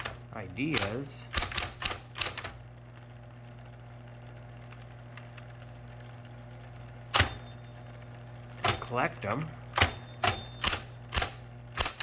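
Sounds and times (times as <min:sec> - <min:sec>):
typewriter motor humming: 0:00.0 - 0:12.0.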